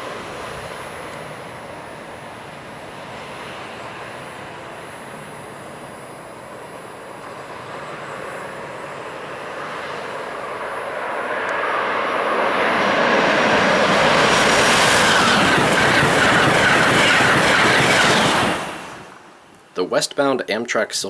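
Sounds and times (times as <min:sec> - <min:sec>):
train rushing past: 0:00.0 - 0:19.5.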